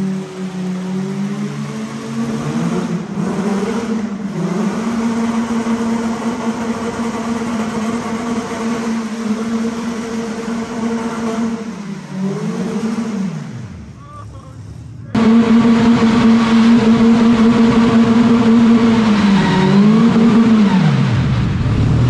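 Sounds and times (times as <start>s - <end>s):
car engine revving high: 0.0s - 22.0s.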